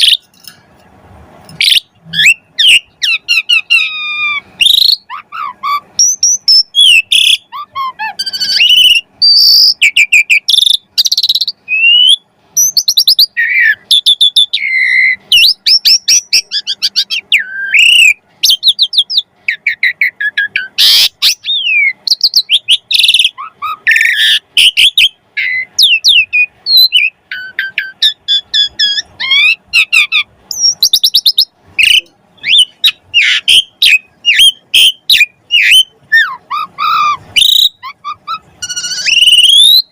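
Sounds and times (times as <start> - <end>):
starling singing: 0.0 - 0.5, 1.5 - 39.9.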